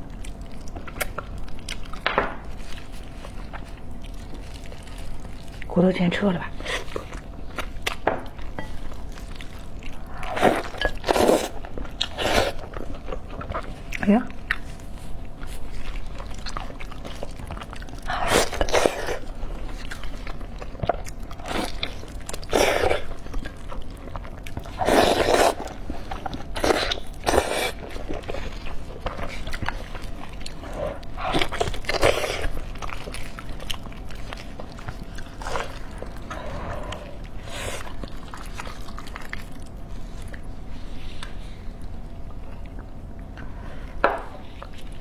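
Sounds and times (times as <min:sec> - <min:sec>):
person chewing and biting: 0:00.0 - 0:05.7, 0:06.6 - 0:40.6.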